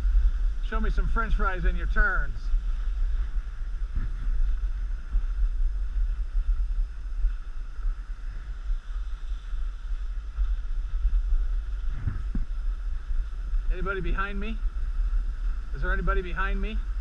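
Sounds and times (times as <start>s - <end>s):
steady hiss: 0.0s - 17.0s
wind buffeting microphone: 0.0s - 17.0s.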